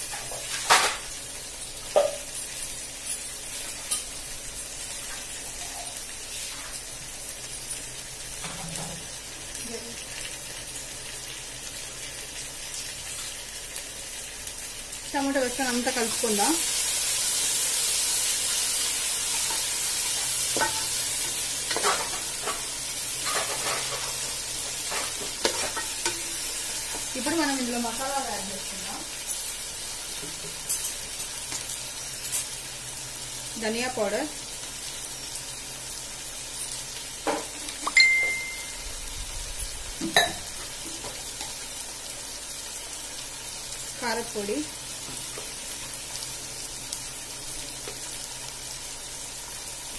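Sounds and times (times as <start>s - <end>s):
vegetables sizzling in oil: 0.0s - 49.9s.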